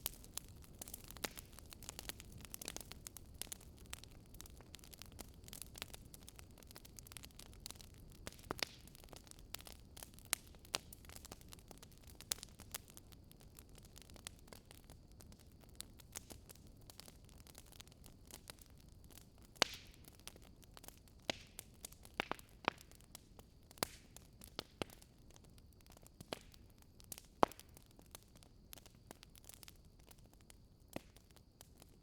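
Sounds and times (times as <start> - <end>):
faint steady hiss: 0.0 - 32.0
fireplace fire crackling: 0.0 - 32.0.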